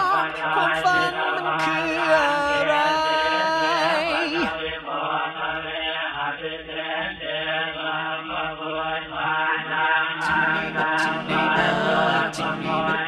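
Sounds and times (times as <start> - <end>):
rhythmic chanting: 0.0 - 13.0.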